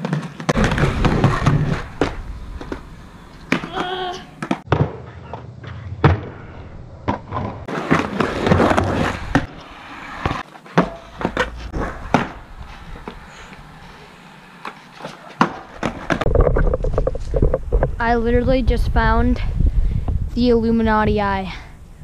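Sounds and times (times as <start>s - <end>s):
skateboard wheels rolling on concrete: 0.0s - 22.0s.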